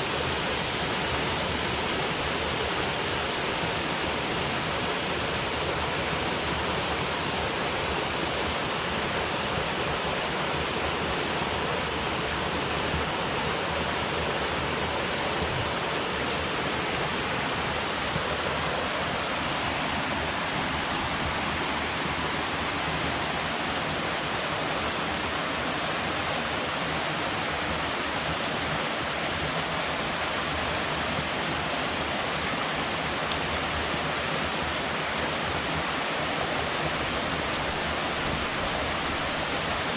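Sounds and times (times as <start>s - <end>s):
river water rushing below a dam: 0.0s - 39.9s.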